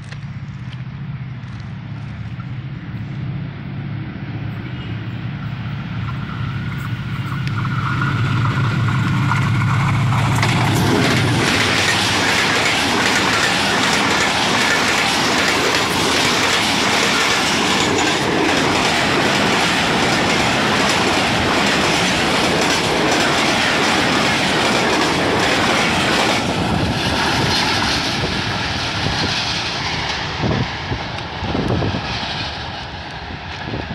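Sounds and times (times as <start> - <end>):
diesel locomotive engine drone: 0.0 - 33.9
train wheels and coaches passing: 0.0 - 33.9.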